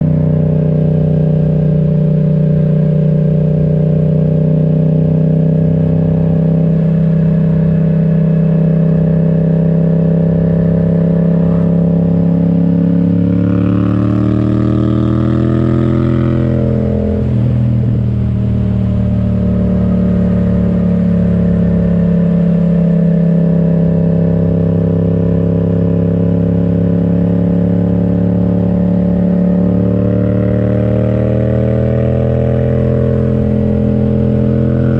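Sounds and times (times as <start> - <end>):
motorcycle engine cruising and revving: 0.0 - 34.9.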